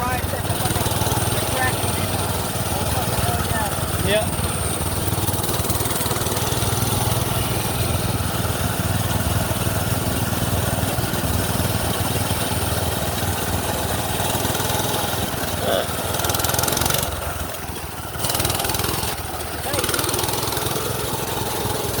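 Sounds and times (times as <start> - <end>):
small gas engine running: 0.0 - 22.0.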